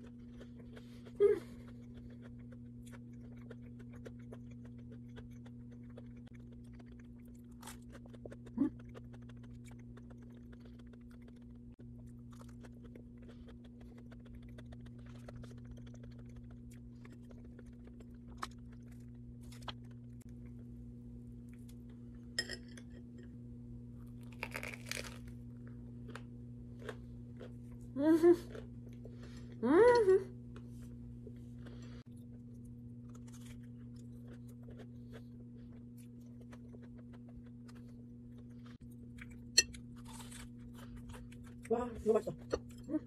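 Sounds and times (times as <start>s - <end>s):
crunchy chewing: 0.0s - 20.6s, 24.0s - 27.9s, 31.4s - 41.7s
low hum: 0.0s - 43.0s.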